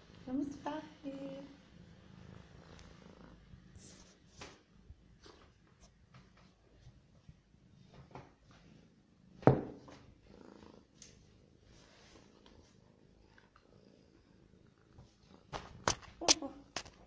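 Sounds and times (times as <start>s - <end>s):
cat purring: 0.0s - 16.8s.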